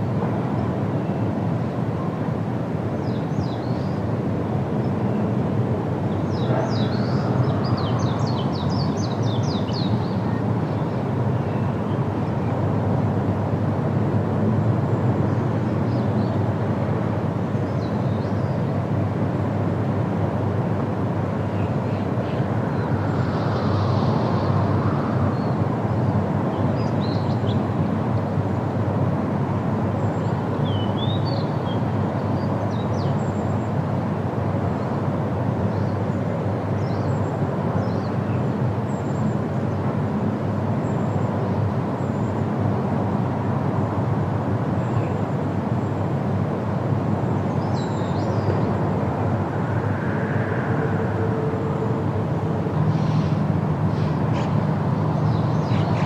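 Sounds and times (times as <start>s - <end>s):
wind rushing through trees: 0.0s - 56.0s.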